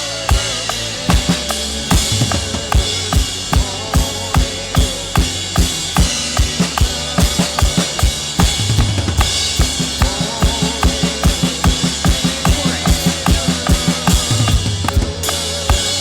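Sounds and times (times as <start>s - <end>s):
band music with bass and chords: 0.0s - 16.0s
drum kit steady beat: 0.0s - 16.0s.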